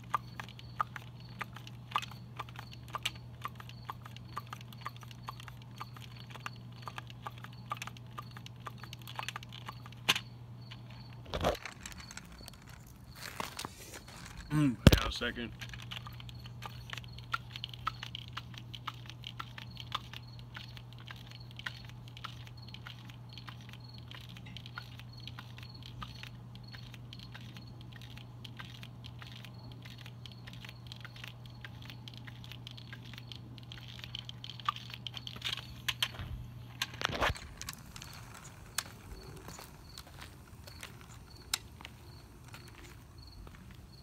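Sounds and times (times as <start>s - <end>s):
handling crackles and rustles: 0.0s - 44.0s
steady low hum: 0.0s - 44.0s.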